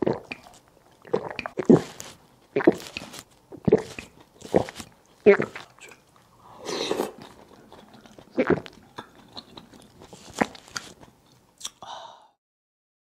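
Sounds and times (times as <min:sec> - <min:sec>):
mouth smacks: 0:00.0 - 0:06.0, 0:06.6 - 0:11.8
person chewing: 0:00.0 - 0:11.9.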